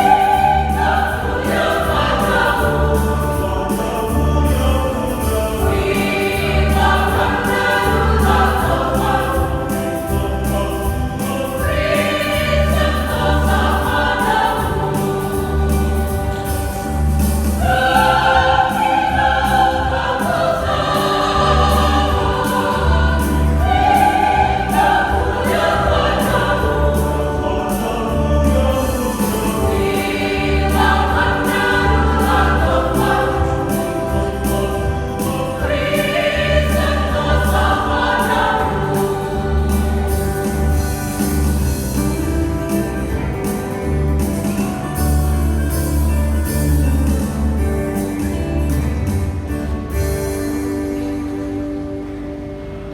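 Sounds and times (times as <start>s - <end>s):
choir singing a gospel hymn: 0.0s - 52.9s.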